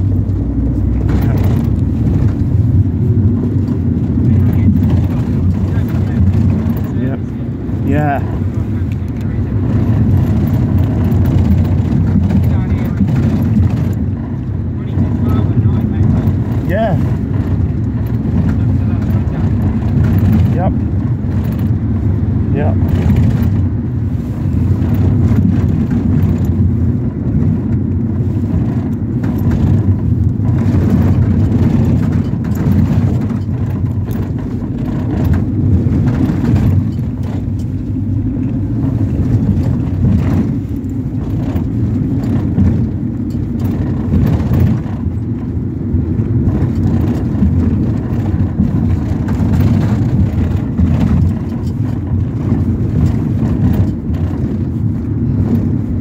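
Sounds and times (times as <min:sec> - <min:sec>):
minibus engine and road rumble: 0:00.0 - 0:56.0.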